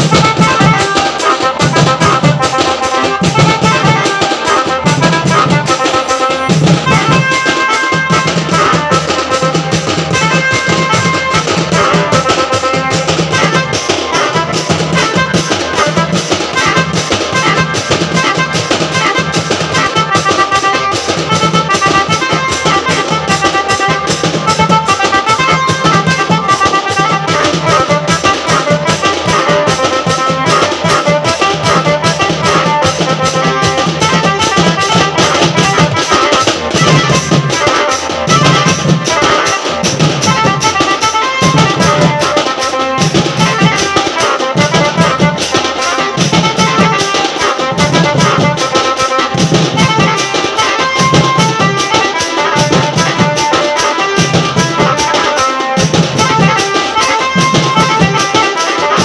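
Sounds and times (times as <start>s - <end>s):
drums and hand cymbals: 0.0s - 59.0s
reedy wind melody: 0.0s - 59.0s.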